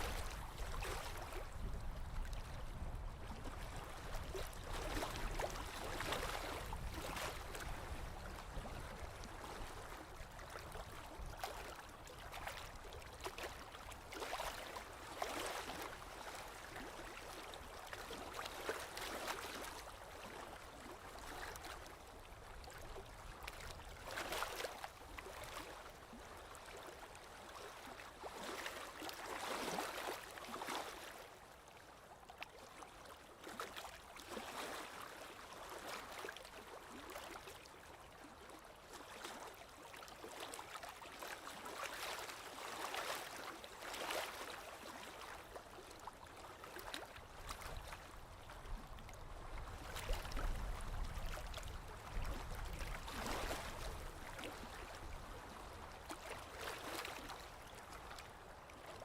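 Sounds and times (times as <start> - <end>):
waves lapping on shore: 0.0 - 59.0.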